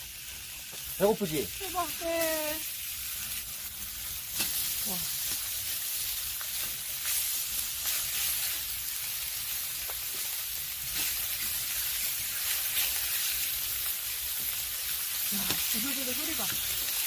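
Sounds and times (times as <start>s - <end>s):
pops and crackles of frying: 0.0s - 17.0s
pork sizzling in oil: 0.0s - 17.0s.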